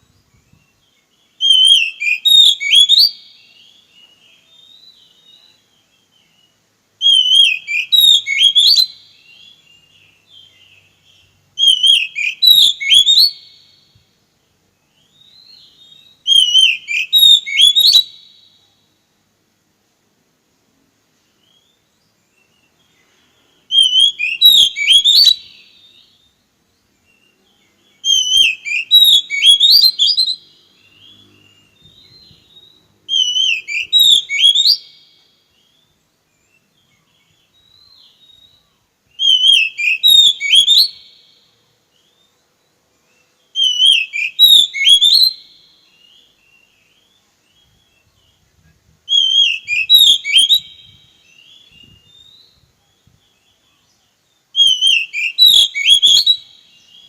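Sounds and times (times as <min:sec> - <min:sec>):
bird singing whistled phrases: 0:00.1 - 0:13.9, 0:14.8 - 0:18.8, 0:21.3 - 0:42.4, 0:43.1 - 0:57.0.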